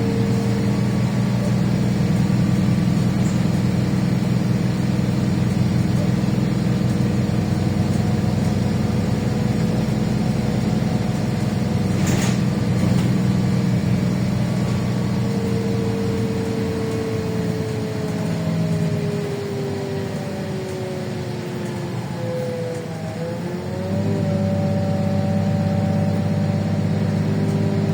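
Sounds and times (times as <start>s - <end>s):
bus engine running: 0.0s - 27.9s.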